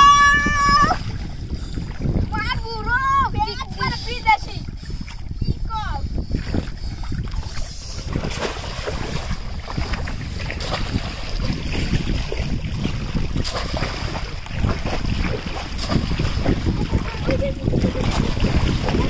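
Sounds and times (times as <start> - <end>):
legs wading through water: 0.0 - 19.0
wind on microphone: 0.0 - 19.0.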